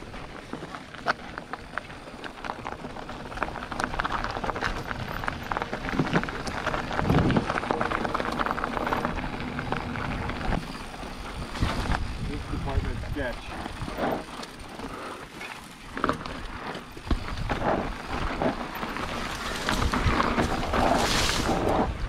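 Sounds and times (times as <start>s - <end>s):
bike rattling: 0.0s - 22.0s
bike tyres crackling on gravel: 0.0s - 22.0s.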